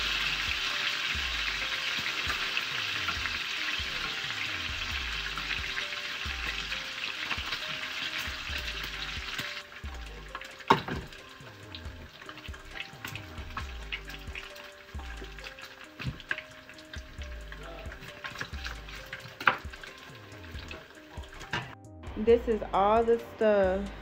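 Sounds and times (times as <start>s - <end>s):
bacon sizzling in a frying pan: 0.0s - 21.8s.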